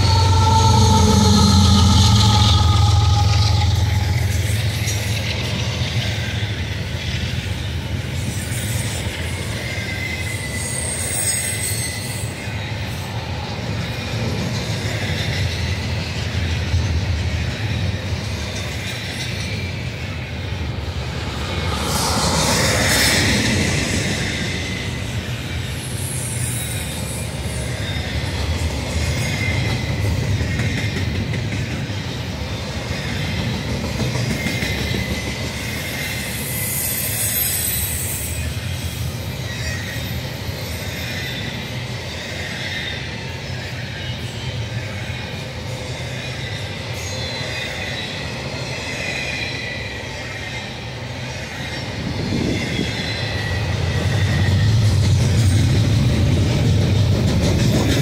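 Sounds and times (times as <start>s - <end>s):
high wheel squeal: 0.0s - 6.8s, 8.2s - 12.9s, 18.6s - 31.0s, 34.2s - 56.7s
train wheels rumbling on rail: 0.0s - 58.0s.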